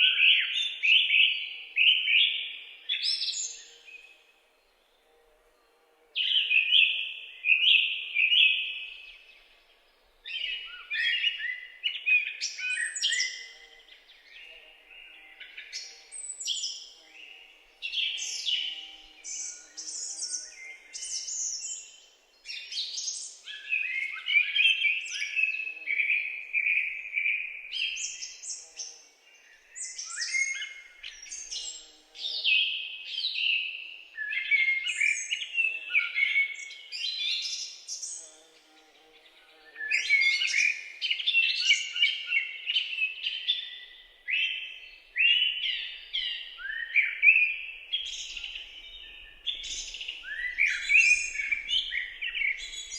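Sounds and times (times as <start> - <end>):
birds singing and chirping: 0.0 - 5.2, 6.2 - 52.9.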